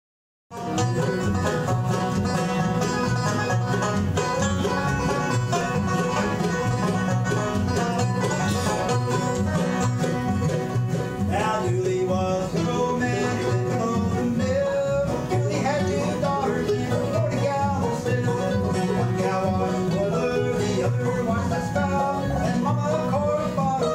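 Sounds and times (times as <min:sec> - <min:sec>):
bluegrass band playing: 0:00.5 - 0:23.9.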